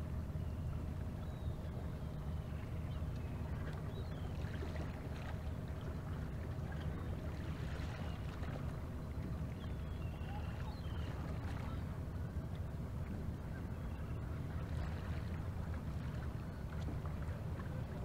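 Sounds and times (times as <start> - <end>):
boat engine drone: 0.0 - 18.0.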